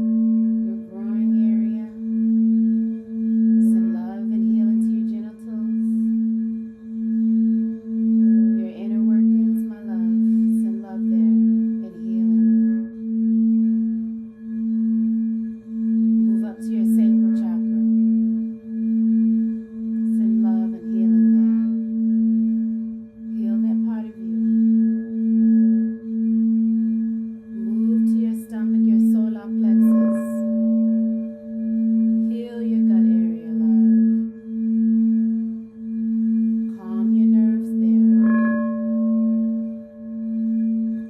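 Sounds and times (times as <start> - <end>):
singing bowl humming: 0.0 - 41.0.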